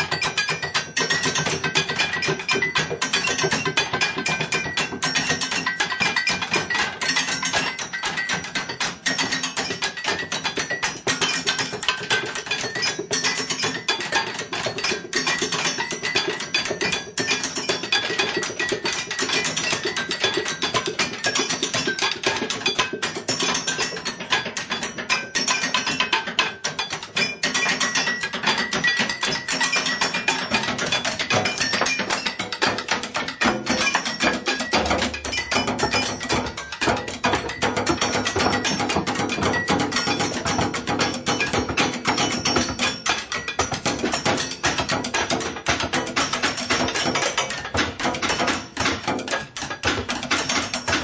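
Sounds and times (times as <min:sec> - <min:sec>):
drumming on kitchen utensils: 0:00.0 - 0:51.0
struck items ringing: 0:00.0 - 0:51.0.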